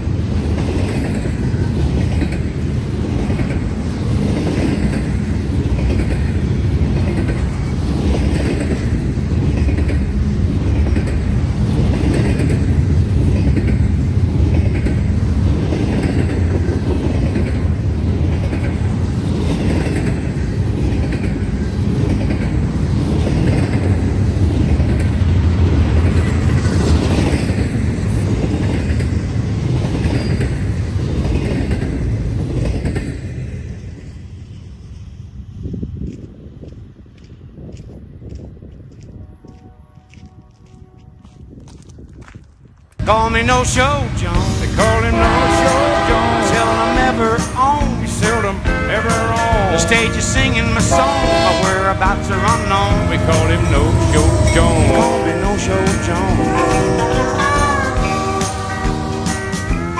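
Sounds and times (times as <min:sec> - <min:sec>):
freight train rumbling on rails: 0:00.0 - 0:59.9
wheels clickety-clack on rail joints: 0:00.0 - 0:59.9.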